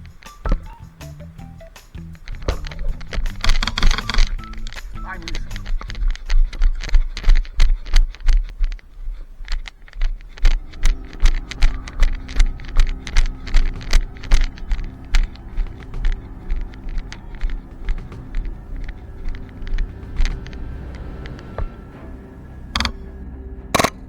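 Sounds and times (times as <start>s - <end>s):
rattle of gear: 0.0s - 1.0s, 1.6s - 21.8s, 22.6s - 23.2s, 23.8s - 24.0s
running footsteps: 0.0s - 23.2s.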